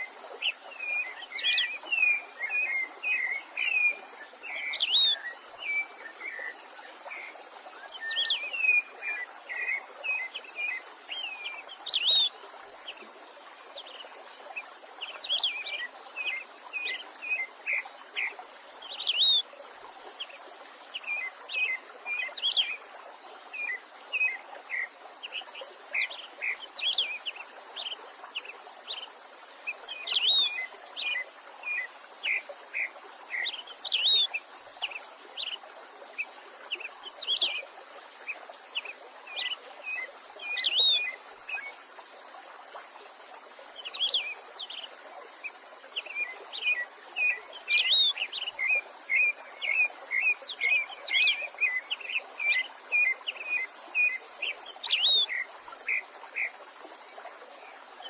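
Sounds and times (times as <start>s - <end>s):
songbirds chirping: 0.0s - 57.8s
creek water running: 0.0s - 58.0s.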